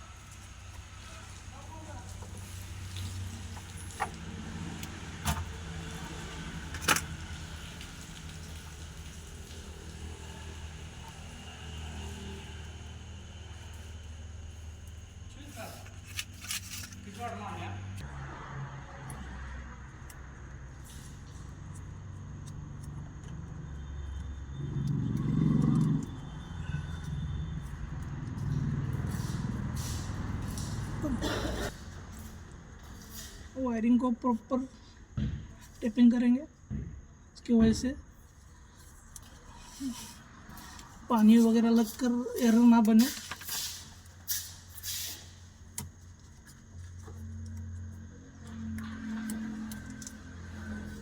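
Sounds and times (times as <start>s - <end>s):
vehicle engine rumbling: 0.0s - 35.7s, 36.7s - 51.0s.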